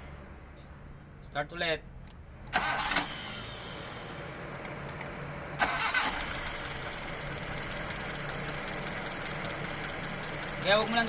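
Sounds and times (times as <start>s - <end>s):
car engine idling: 0.0s - 11.0s
car engine cranking: 2.0s - 11.0s.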